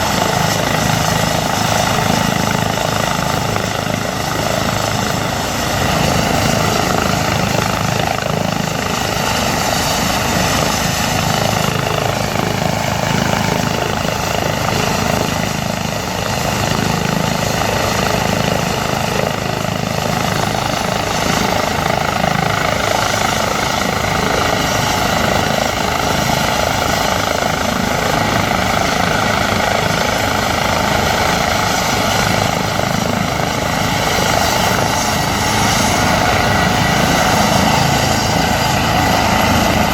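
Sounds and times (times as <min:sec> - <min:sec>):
helicopter rotor beat: 0:00.0 - 0:39.9
turbine whine: 0:00.0 - 0:39.9.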